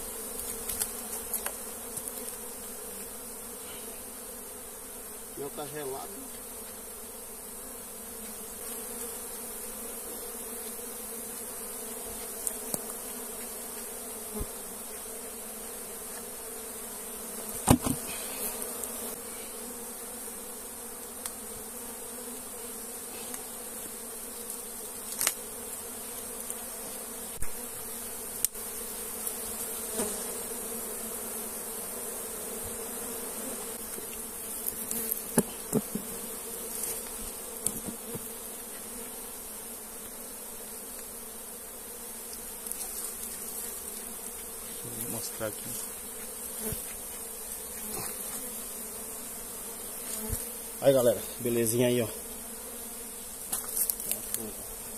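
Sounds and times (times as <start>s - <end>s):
bees buzzing: 0.0s - 54.9s.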